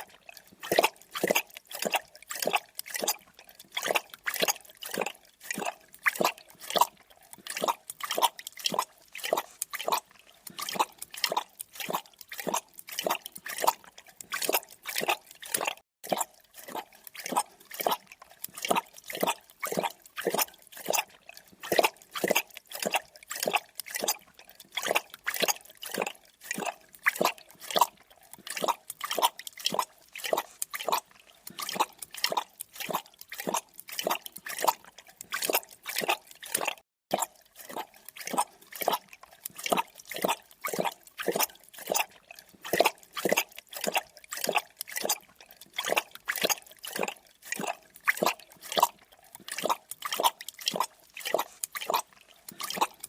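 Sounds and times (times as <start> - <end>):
wet lapping strokes: 0.0 - 53.0.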